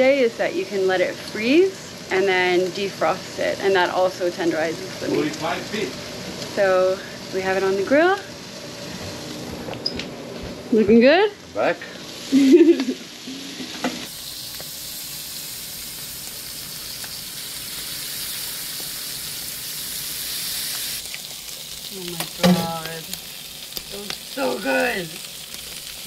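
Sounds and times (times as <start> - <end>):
octopus sizzling on grill: 0.0 - 26.0.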